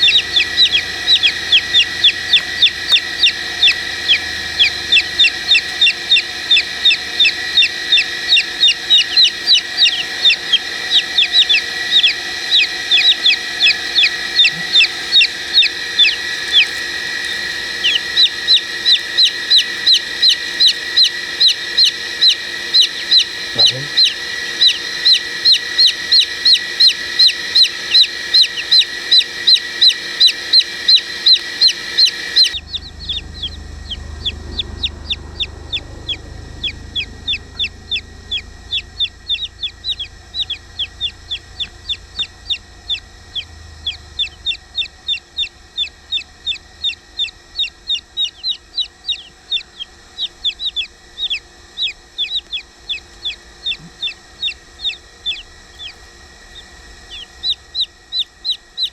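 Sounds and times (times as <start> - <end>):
chicks peeping: 0.0 - 58.9
low hum: 0.0 - 58.9.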